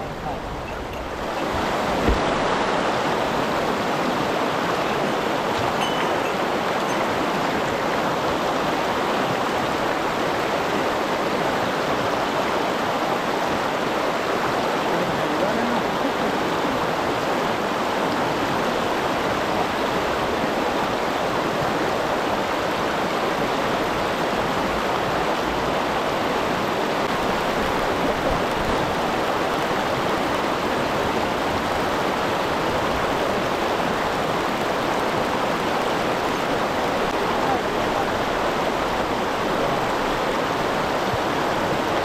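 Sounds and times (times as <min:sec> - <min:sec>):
stream water rushing: 0:00.0 - 0:42.0.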